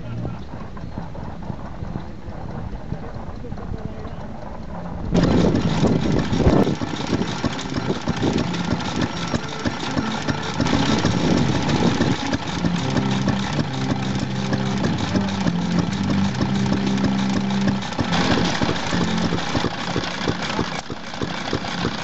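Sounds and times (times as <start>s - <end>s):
clatter of belt-driven machinery: 0.0s - 22.0s
stationary engines running: 0.0s - 22.0s
steady multi-tone hum: 0.0s - 22.0s.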